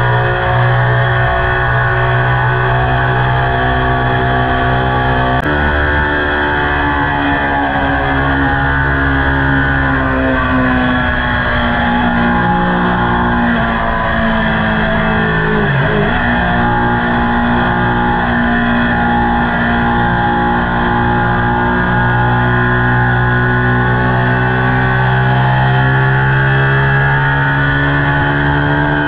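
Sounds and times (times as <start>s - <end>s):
motorcycle engine at cruising revs: 0.0s - 29.0s.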